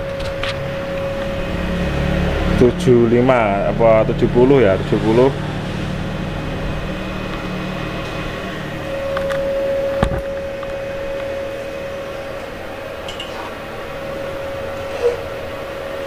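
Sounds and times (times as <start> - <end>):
steady humming tone: 0.0 - 16.0
welding machine cooling fan: 0.0 - 16.0.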